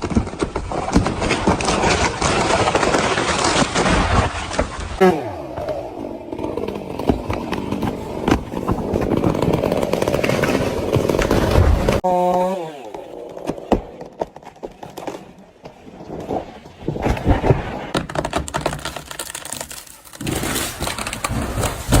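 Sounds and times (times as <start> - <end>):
knocks cracks and crackles: 0.0 - 12.0, 12.9 - 22.0.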